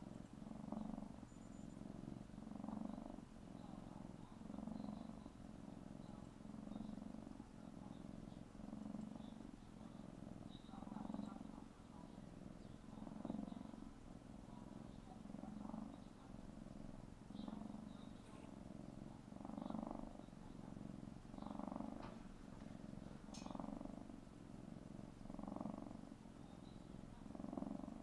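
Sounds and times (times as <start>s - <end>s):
kitten purring: 0.0s - 28.0s.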